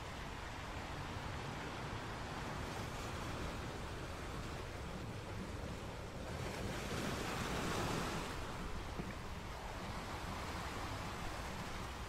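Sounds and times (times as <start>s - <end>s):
ocean surf washing ashore: 0.0s - 12.0s
wind rumble on microphone: 0.0s - 12.0s.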